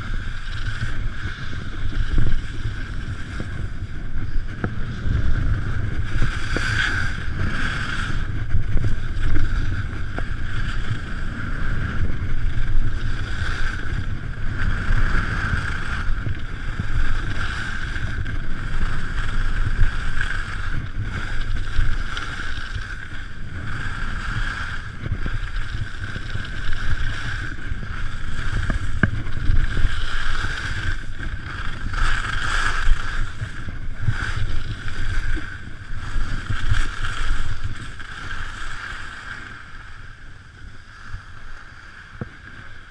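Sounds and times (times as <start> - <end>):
skis scraping over snow: 0.0 - 42.9
wind buffeting microphone: 0.0 - 42.9.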